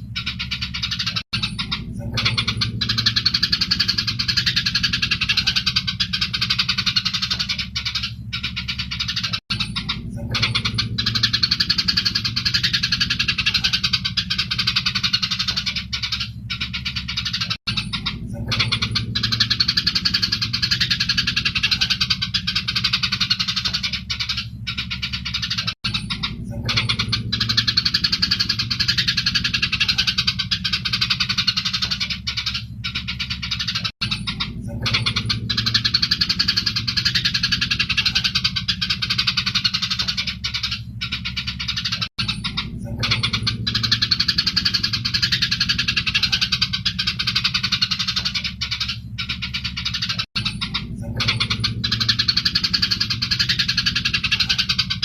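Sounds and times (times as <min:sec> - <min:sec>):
sparrows chattering and scolding: 0:00.0 - 0:55.0
steady low hum: 0:00.0 - 0:55.0.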